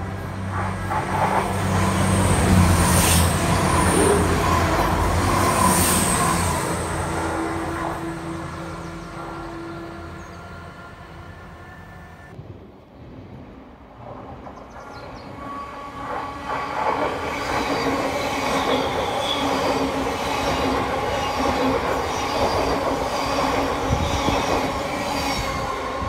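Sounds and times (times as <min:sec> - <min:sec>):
train passing on rails: 0:00.0 - 0:26.0.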